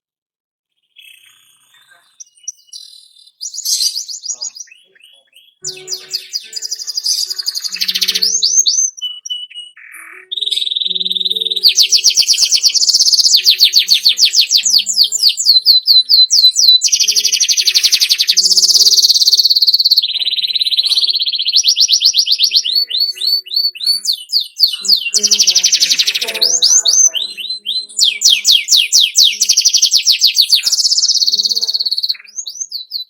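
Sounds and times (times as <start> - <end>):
canary singing: 0.7 - 33.0.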